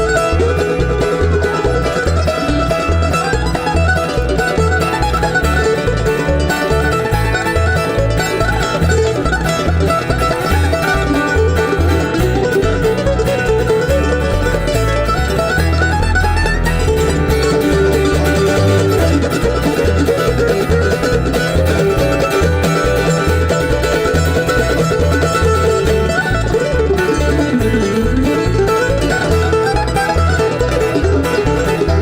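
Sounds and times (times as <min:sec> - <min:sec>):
plucked strings: 0:00.0 - 0:32.0
pulsing bass beat: 0:00.0 - 0:32.0.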